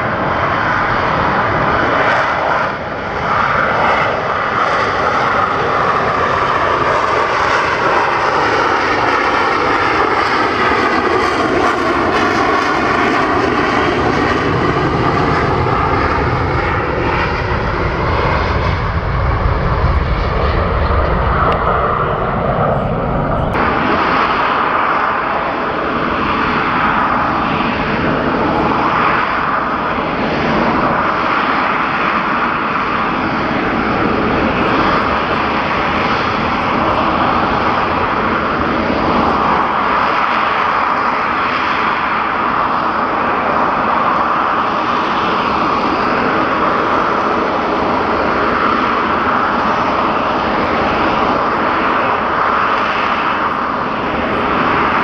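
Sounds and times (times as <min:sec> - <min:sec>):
aircraft engines: 0:00.0 - 0:55.0.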